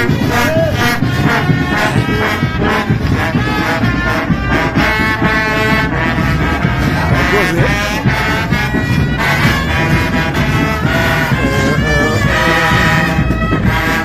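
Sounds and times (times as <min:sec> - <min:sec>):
marching brass band playing: 0:00.0 - 0:14.0
trombones: 0:00.0 - 0:14.0.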